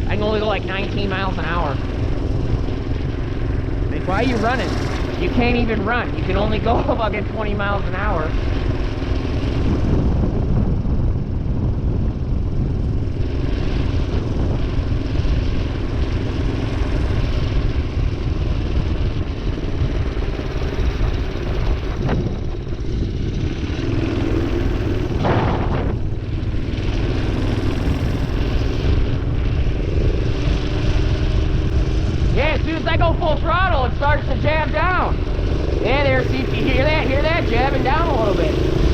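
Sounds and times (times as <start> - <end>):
minibike engine running: 0.0 - 38.9
wind noise on microphone: 0.0 - 38.9.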